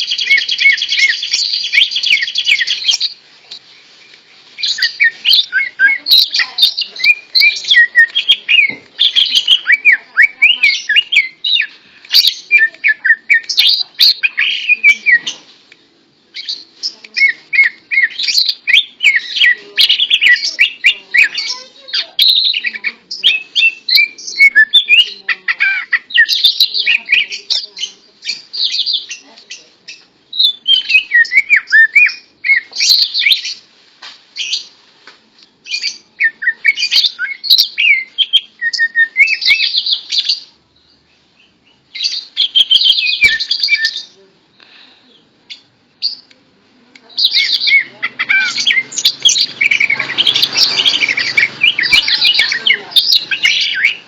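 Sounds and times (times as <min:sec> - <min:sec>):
bird chirping and warbling: 0:00.0 - 0:03.2, 0:04.6 - 0:15.5, 0:16.3 - 0:33.7, 0:35.6 - 0:44.2, 0:47.2 - 0:54.0.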